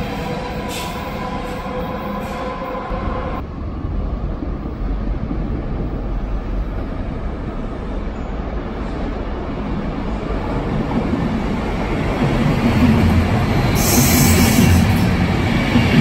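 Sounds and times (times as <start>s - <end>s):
deep rumble of approaching train: 0.0s - 16.0s
electric train whine over rails: 0.0s - 16.0s.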